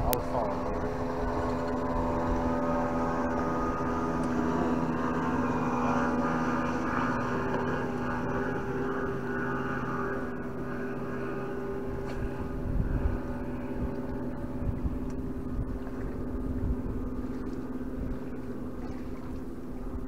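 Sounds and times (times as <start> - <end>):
boat motor humming: 0.0 - 20.0
low rumbles: 0.0 - 20.0.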